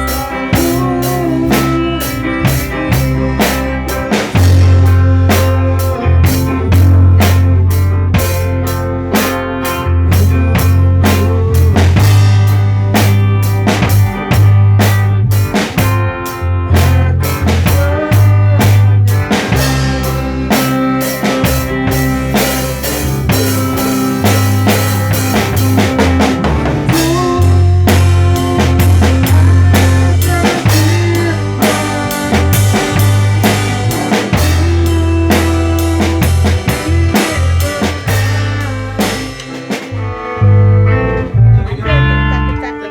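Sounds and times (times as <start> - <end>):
band playing live: 0.0 - 42.9
bass line: 0.0 - 42.9
drum kit beat: 0.0 - 42.9.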